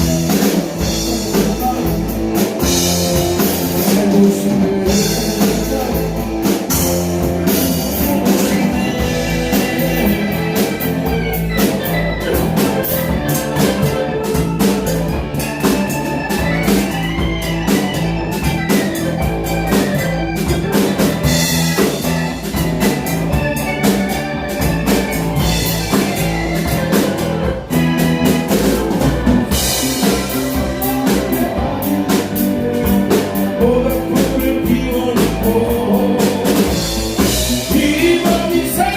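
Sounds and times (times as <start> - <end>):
drum kit beat: 0.0 - 38.9
guitar: 0.0 - 38.9.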